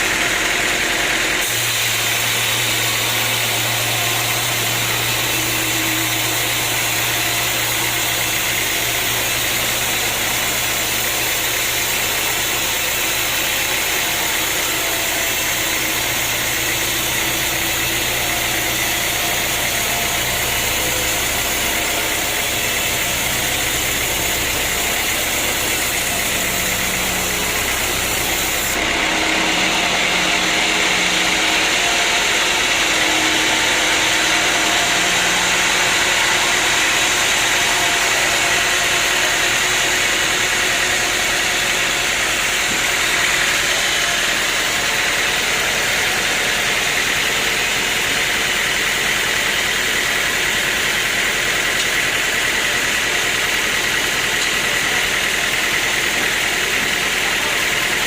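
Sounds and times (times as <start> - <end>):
sawmill machinery drone: 0.0 - 58.0
high whine: 1.4 - 48.3.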